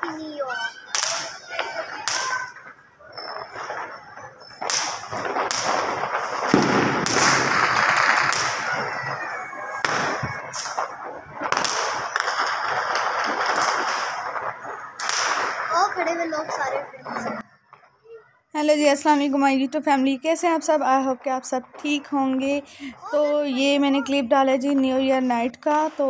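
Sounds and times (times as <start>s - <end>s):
firecrackers banging: 0.0s - 17.9s, 18.6s - 26.0s.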